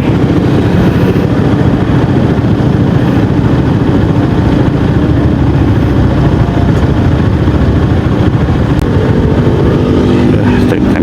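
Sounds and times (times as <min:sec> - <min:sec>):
scooter engine and road noise: 0:00.0 - 0:11.0
wind rumble on microphone: 0:00.0 - 0:11.0.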